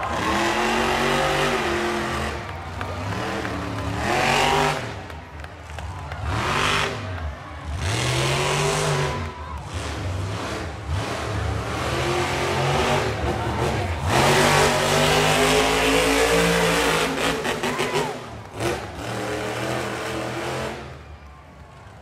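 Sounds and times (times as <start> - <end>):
monster truck engines revving: 0.0 - 22.0.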